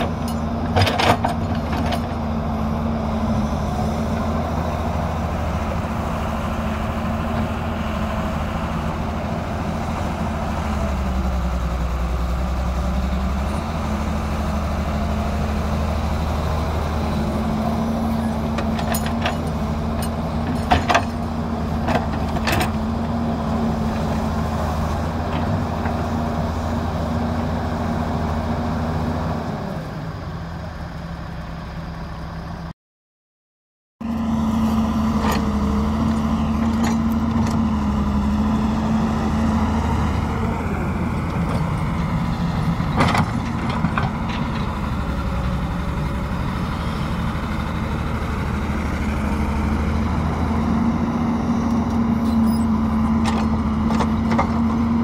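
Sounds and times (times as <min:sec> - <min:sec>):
excavator digging soil: 0:00.0 - 0:27.6, 0:34.1 - 0:55.0
diesel engines running: 0:00.0 - 0:32.7, 0:34.0 - 0:55.0.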